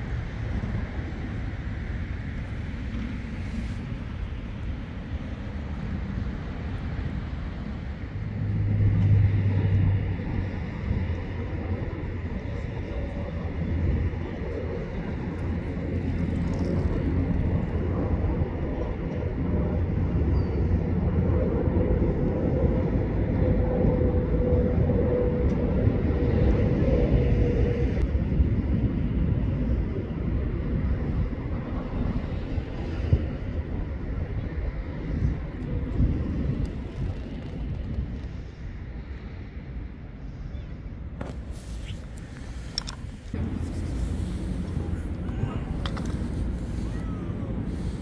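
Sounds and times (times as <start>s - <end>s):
low hum: 0.0s - 48.0s
low rumble: 0.0s - 48.0s.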